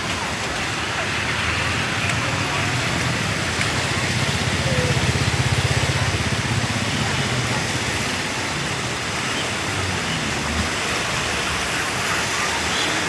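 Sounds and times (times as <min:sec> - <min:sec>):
flood river rushing: 0:00.0 - 0:13.0.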